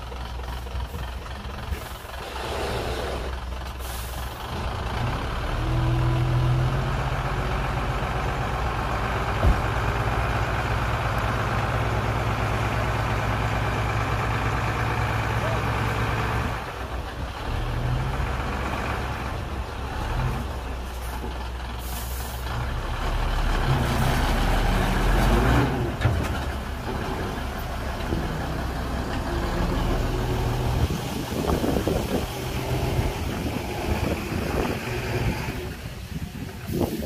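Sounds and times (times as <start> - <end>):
heavy diesel engines revving: 0.0 - 37.0.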